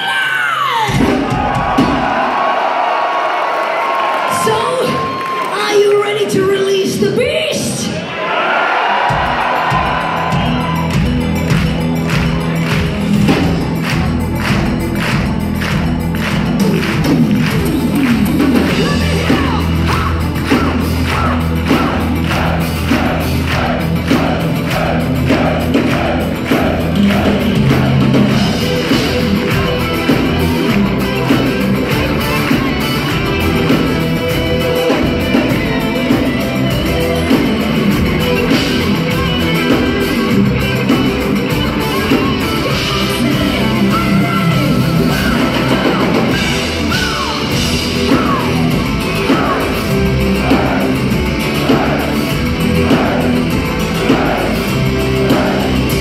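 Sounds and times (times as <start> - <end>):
heavy metal band playing: 0.0 - 8.1, 8.8 - 56.0.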